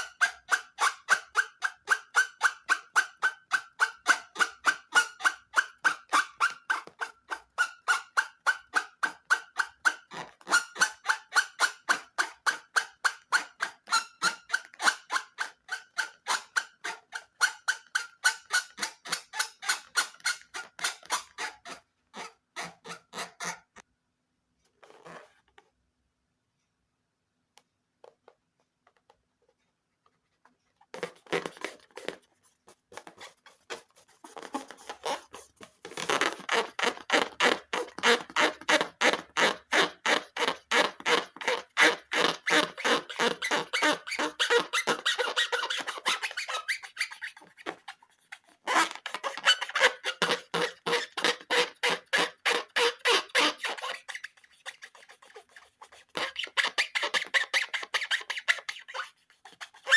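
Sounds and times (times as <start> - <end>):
balloons squeaking when rubbed: 0.0 - 23.8, 24.8 - 25.5, 30.4 - 59.9.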